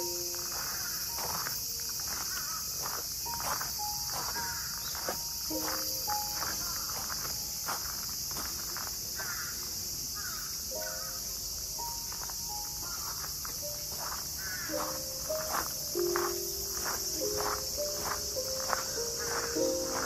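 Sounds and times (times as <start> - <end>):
footsteps on gravel: 0.0 - 9.4, 11.8 - 20.0
cicadas chorus: 0.0 - 20.0.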